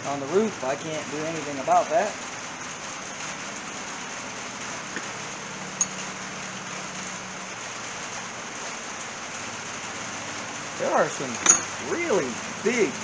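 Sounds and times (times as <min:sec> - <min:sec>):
rain on a roof: 0:00.0 - 0:13.0.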